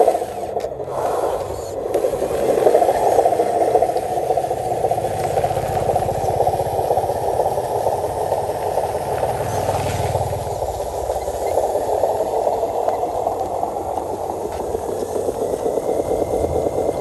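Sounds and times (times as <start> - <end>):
toy truck electric motor whirring: 0.0 - 17.0.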